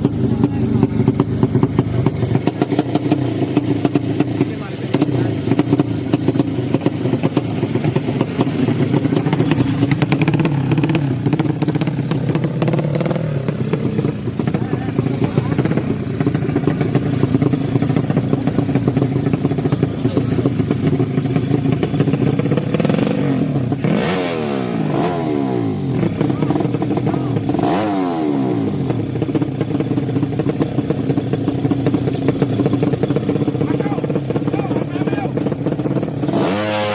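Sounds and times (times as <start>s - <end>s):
motorcycle engines revving: 0.0s - 36.9s
motorcycles passing by: 0.0s - 36.9s.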